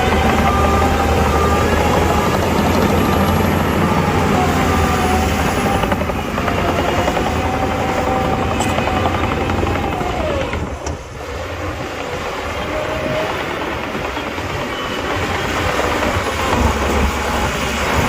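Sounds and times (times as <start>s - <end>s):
diesel engine clatter: 0.0s - 18.0s
thin machine whine: 0.0s - 18.0s.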